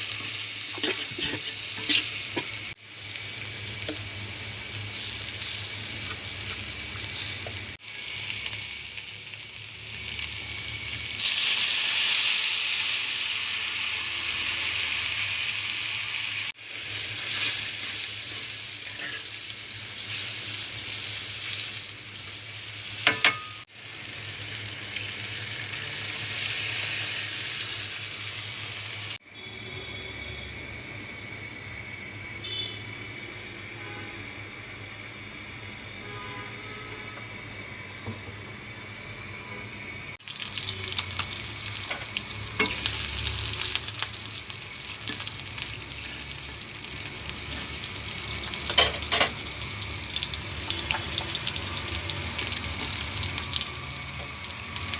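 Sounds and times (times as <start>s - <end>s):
food sizzling in a pan: 0.0s - 30.0s, 31.1s - 54.9s.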